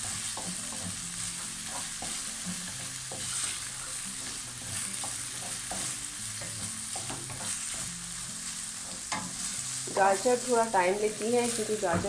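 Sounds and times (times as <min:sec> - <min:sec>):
spatula scraping a pan: 0:00.0 - 0:10.5
vegetables sizzling in oil: 0:00.0 - 0:12.0.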